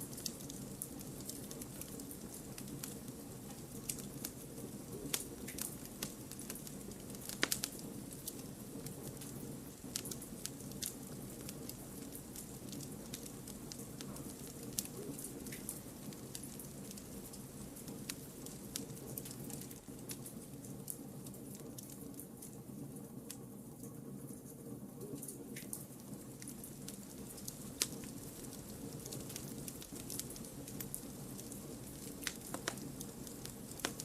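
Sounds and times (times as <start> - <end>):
campfire flame rushing: 0.0 - 22.1, 26.0 - 34.0
fire crackling and popping: 0.0 - 34.0.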